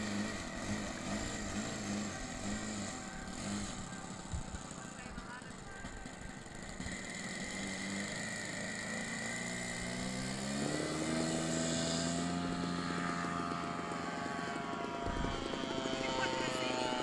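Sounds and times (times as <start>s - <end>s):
model airplane motor drone: 0.0s - 17.0s.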